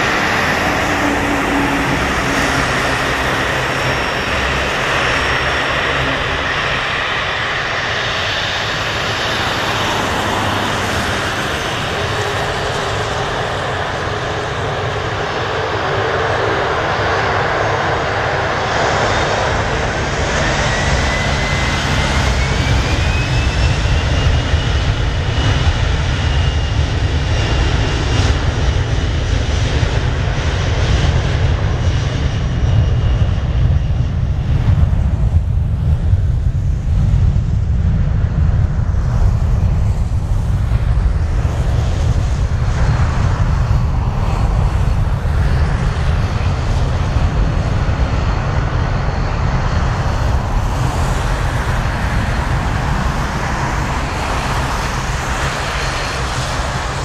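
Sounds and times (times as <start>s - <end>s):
deep loud jet rumble: 0.0s - 57.0s
jet engine fan whine: 0.0s - 57.0s.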